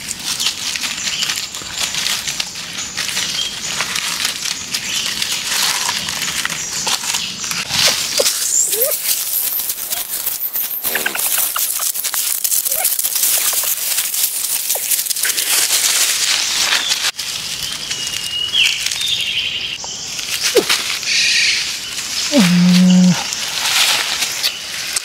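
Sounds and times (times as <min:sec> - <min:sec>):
leaves crunching underfoot: 0:00.0 - 0:25.0.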